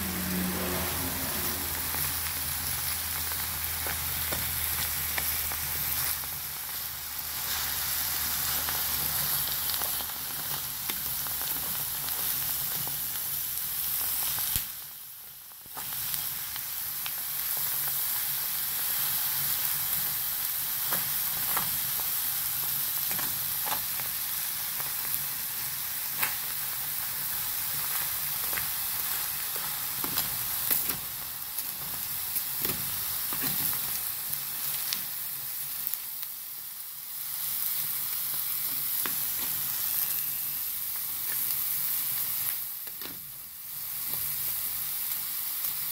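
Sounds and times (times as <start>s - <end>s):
borax sizzling in a metal pan: 0.0s - 45.9s.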